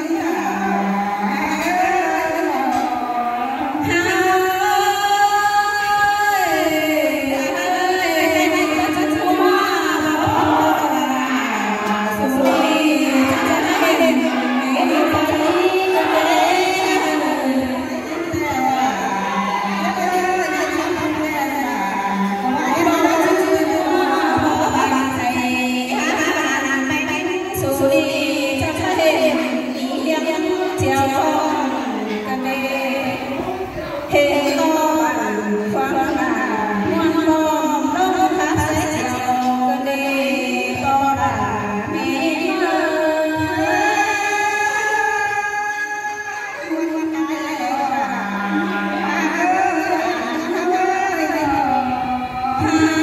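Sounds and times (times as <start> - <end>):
women singing into microphones: 0.0 - 53.0.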